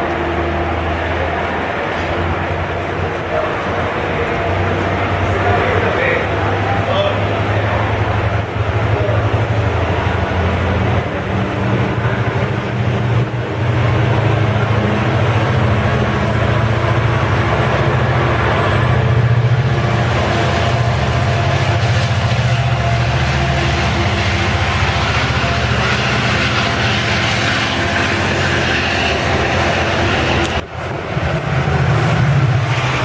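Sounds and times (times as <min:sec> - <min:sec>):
deep locomotive engine drone: 0:00.0 - 0:33.0
train wheels rumbling on rail: 0:00.0 - 0:33.0.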